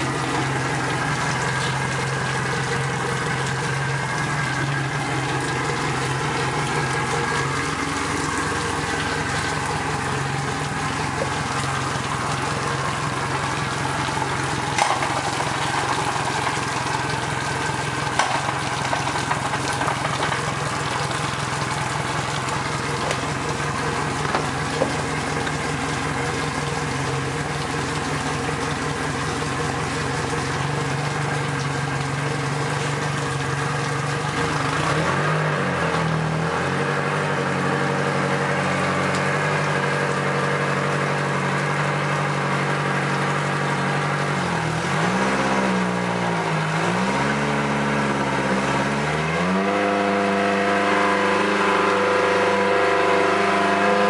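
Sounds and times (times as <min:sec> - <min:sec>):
outboard motor running: 0:00.0 - 0:54.0
water splashing: 0:00.0 - 0:54.0.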